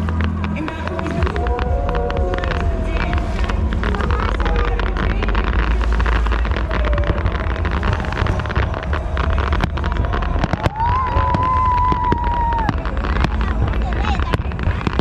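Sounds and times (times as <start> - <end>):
fireworks crackling: 0.0 - 15.0
low rumble: 0.0 - 15.0
wind on microphone: 0.0 - 15.0.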